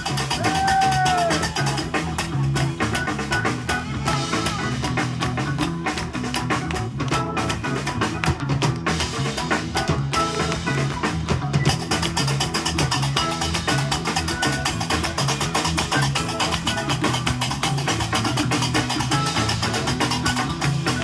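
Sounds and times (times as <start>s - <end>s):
congas: 0.0s - 21.0s
drum kit beat: 0.0s - 21.0s
guitar: 0.0s - 21.0s.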